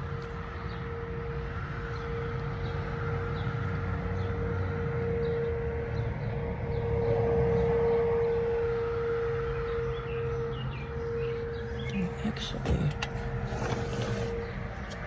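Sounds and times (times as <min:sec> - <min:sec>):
warning siren howling: 0:00.0 - 0:15.0
birds chirping: 0:01.8 - 0:15.0.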